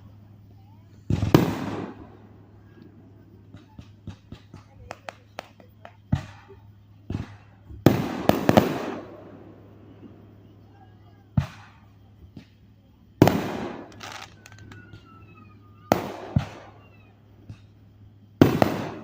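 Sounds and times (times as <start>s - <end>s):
fireworks banging: 0.0s - 19.0s.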